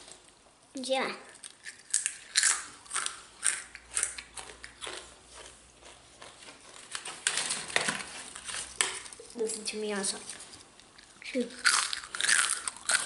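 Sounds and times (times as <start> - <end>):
crisps being crunched: 1.4 - 9.6, 10.2 - 13.0.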